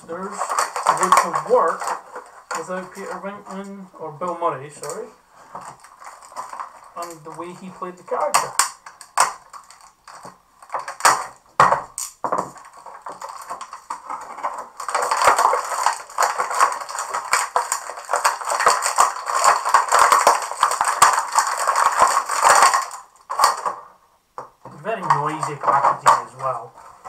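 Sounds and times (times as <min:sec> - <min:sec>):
plastic bag crinkling: 0:00.0 - 0:24.0, 0:24.6 - 0:27.0.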